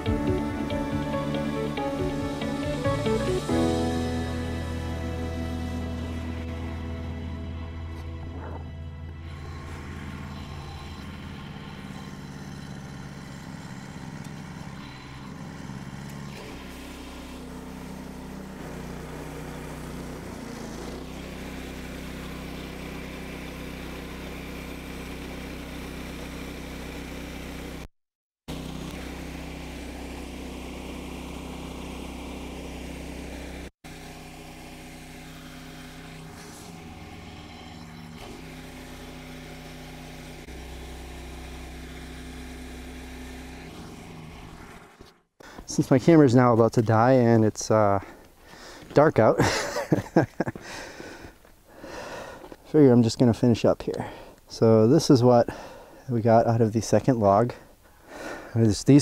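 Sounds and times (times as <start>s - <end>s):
sawmill gasoline engine running: 0.0s - 27.9s, 28.5s - 59.0s.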